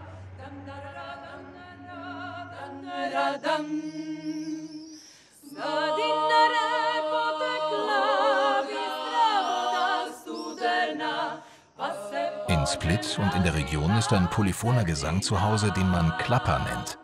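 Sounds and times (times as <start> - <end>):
women's choir singing a cappella: 0.0 - 17.0.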